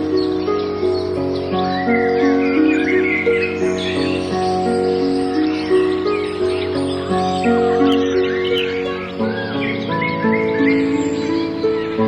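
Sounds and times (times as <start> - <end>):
soft instrumental music: 0.0 - 12.0
songbirds chirping: 0.0 - 12.0.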